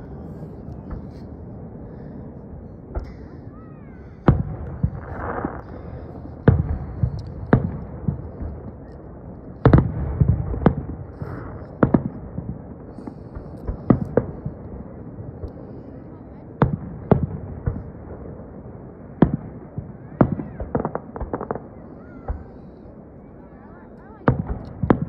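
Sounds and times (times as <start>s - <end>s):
distant firework bangs: 0.0s - 23.4s, 24.1s - 25.0s
low rumbling echo: 0.0s - 25.0s.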